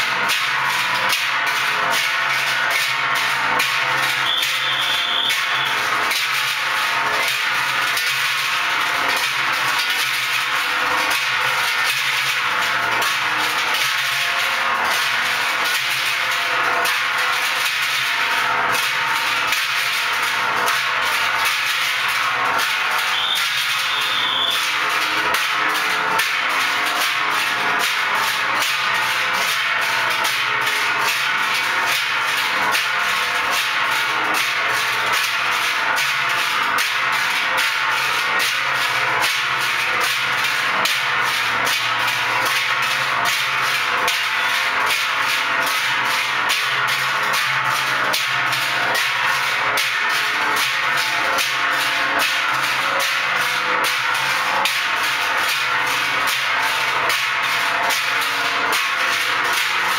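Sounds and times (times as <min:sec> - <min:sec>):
music with fast percussive beat: 0:00.1 - 0:59.9.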